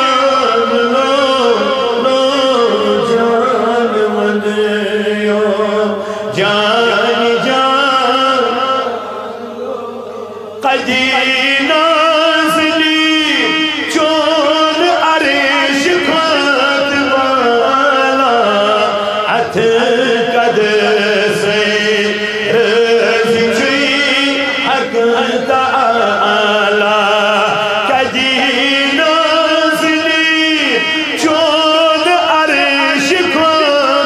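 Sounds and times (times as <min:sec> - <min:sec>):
man singing into microphone: 0:00.0 - 0:34.0.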